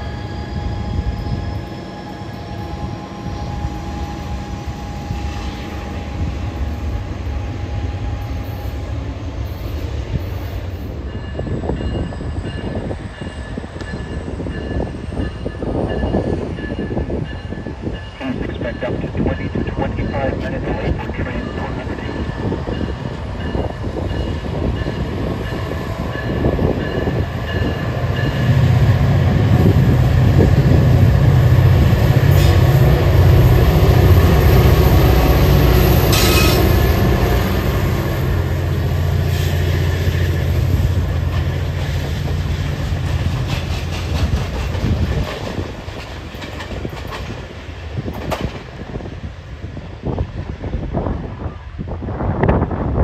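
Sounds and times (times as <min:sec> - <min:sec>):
diesel locomotive engine drone: 0:00.0 - 0:53.0
train rumble: 0:00.0 - 0:53.0.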